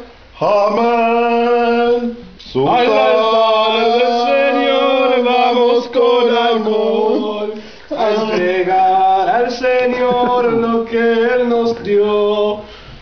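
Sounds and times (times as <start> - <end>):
male voices chanting: 0.0 - 12.7.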